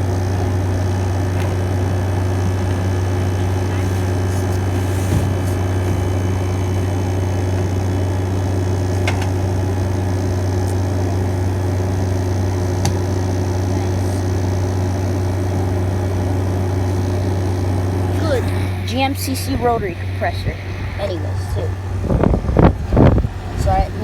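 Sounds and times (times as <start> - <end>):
air conditioner fan blowing: 0.0 - 24.0
compressor low hum: 0.0 - 24.0.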